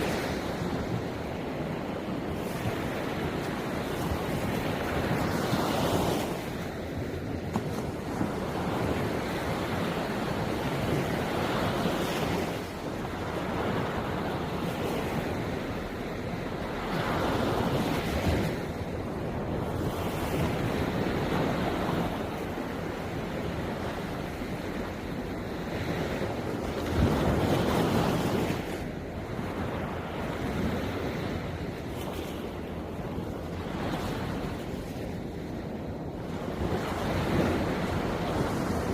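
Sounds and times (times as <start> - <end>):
sea waves washing ashore: 0.0 - 38.9
wind rumble on microphone: 0.0 - 38.9.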